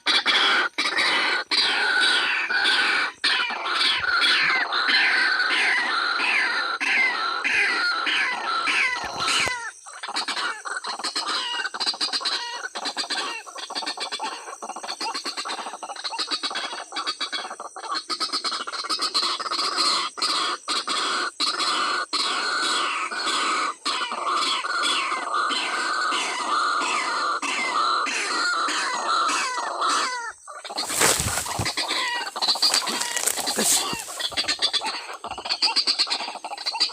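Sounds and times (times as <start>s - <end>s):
harsh repeated bird calls: 0.0s - 36.9s.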